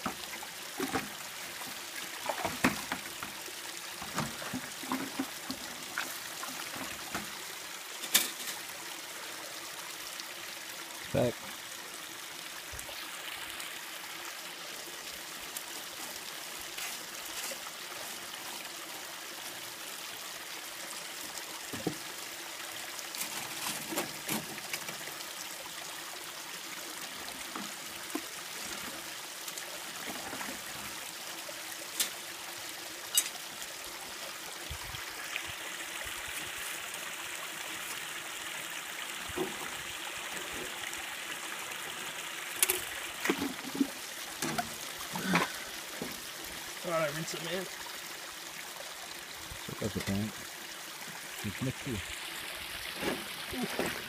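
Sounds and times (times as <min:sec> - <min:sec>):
water running over gravel: 0:00.0 - 0:54.0.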